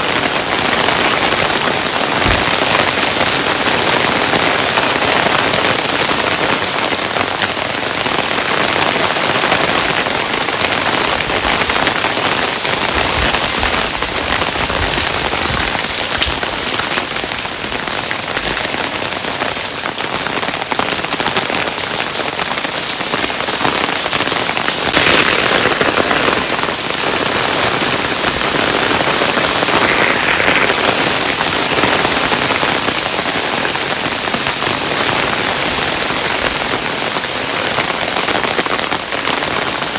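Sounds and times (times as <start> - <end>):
hailstones striking a surface: 0.2 - 34.1.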